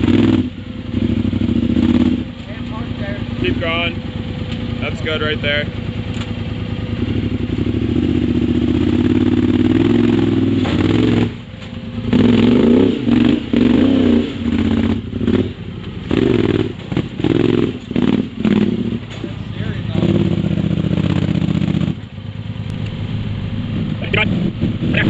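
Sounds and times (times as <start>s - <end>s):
utility vehicle engine revving: 0.0s - 25.0s.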